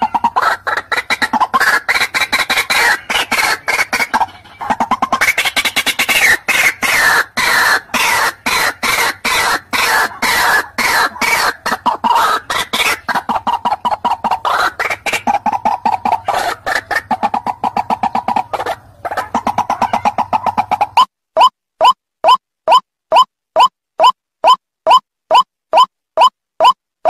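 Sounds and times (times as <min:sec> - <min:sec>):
waterhen calling: 0:00.0 - 0:26.8.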